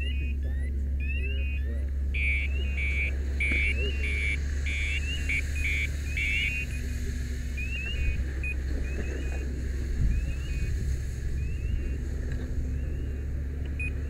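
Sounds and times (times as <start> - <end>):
electronic alarm beeping and chirping: 0.0 - 12.1, 12.7 - 14.0
low rumble: 0.0 - 14.0.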